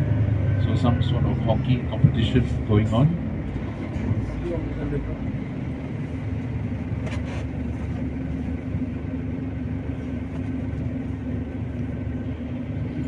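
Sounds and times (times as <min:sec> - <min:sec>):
road vehicle droning: 0:00.0 - 0:13.0.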